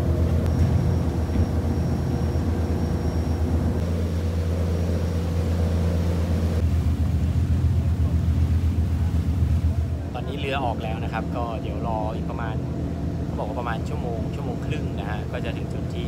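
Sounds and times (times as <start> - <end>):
boat engine droning: 0.0 - 16.0
water rushing around hull: 0.0 - 16.0.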